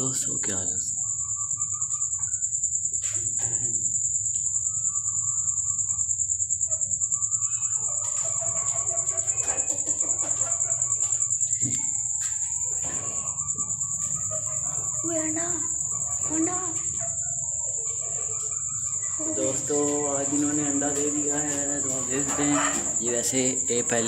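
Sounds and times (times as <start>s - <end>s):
bird calls: 0.0s - 24.0s
crickets trilling: 0.0s - 24.0s.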